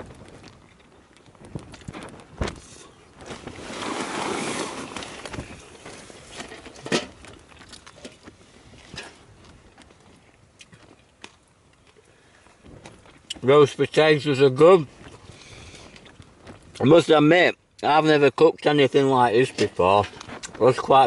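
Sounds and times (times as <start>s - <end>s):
rustle: 0.0s - 21.0s.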